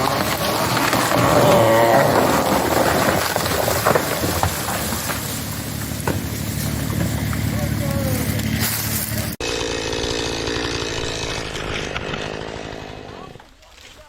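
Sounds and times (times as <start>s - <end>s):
chainsaw cutting wood: 0.0s - 13.9s.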